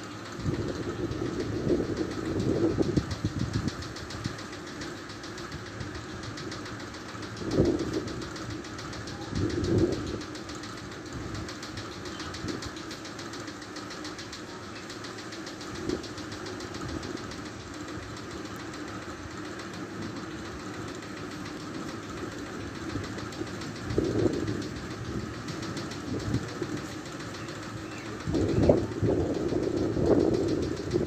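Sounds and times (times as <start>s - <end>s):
low droning hum: 0.0s - 31.0s.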